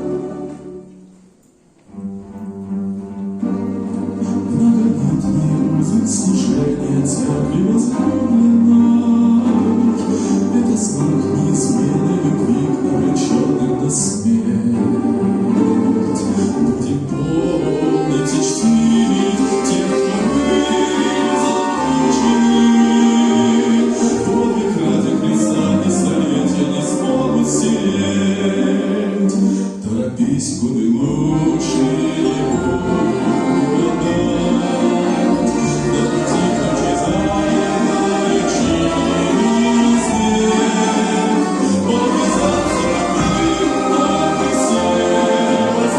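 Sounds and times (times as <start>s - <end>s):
orchestra accompanying: 0.0s - 45.9s
choir singing a hymn: 4.5s - 29.8s, 30.7s - 45.9s.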